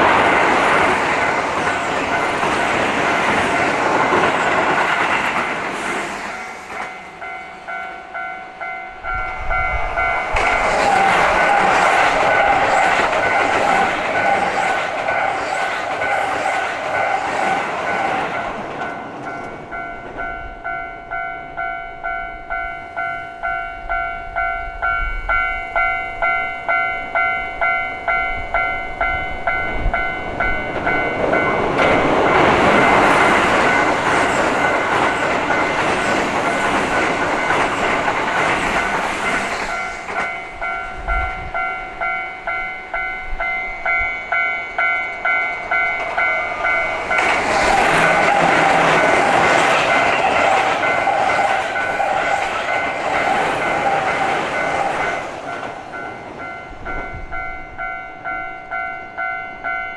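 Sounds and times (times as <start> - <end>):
train wheel and running noise: 0.0 - 21.7, 22.6 - 59.9
railroad crossing bell ringing: 0.0 - 59.9.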